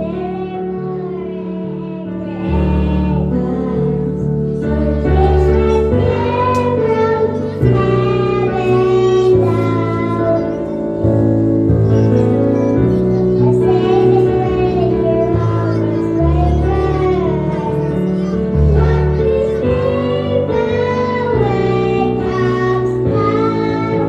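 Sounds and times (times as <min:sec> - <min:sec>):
child singing: 0:00.0 - 0:24.0
instrumental accompaniment: 0:00.0 - 0:24.0.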